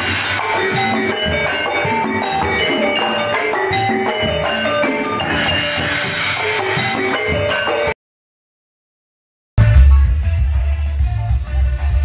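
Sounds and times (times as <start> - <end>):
intro music with drums: 0.0 - 8.0, 9.6 - 12.0.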